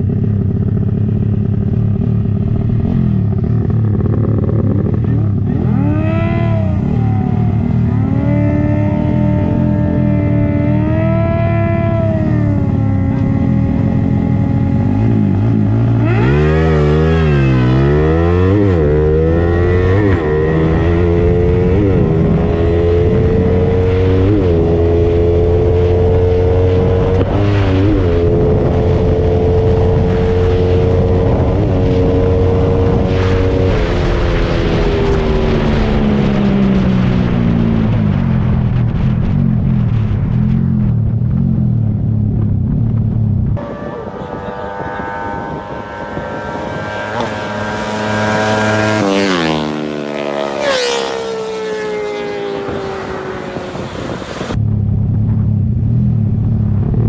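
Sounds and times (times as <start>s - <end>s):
steady low drone: 0.0s - 50.6s, 51.9s - 57.0s
motorcycle engines revving: 0.0s - 57.0s.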